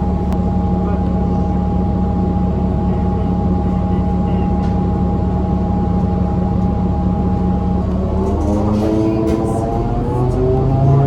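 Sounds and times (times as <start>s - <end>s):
bus engine drone with whine: 0.0s - 11.0s.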